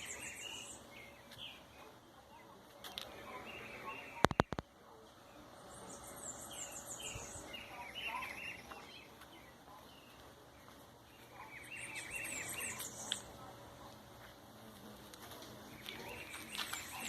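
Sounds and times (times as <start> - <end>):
faint background noise: 0.0 - 17.0
songbird chirping: 0.0 - 17.0.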